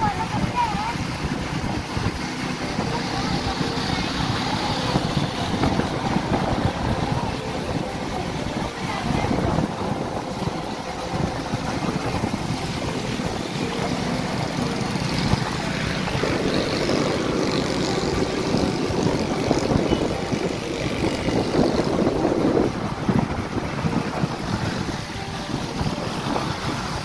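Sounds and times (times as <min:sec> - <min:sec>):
vehicle engine and road drone: 0:00.0 - 0:27.0
wind buffeting microphone: 0:00.0 - 0:27.0.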